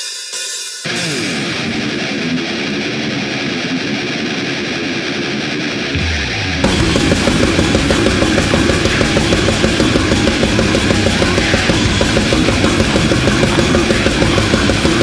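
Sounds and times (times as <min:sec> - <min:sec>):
death metal music: 0:00.8 - 0:15.0.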